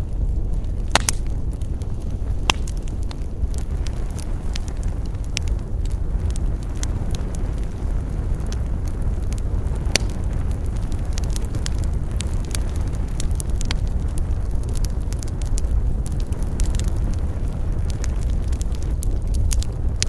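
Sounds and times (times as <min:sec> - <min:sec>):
campfire crackling and popping: 0:00.0 - 0:20.0
low rumble: 0:00.0 - 0:20.0.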